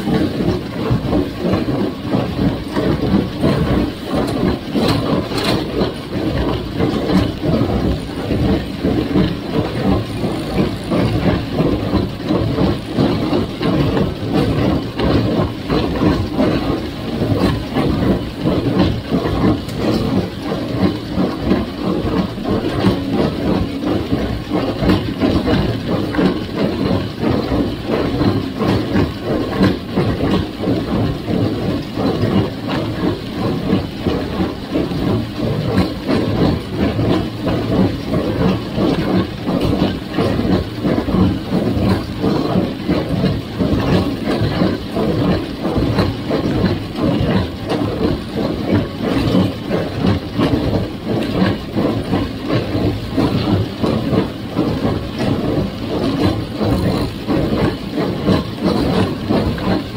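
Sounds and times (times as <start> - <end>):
baler pulsing mechanical din: 0.0 - 59.9
tractor engine running under load: 0.0 - 59.9.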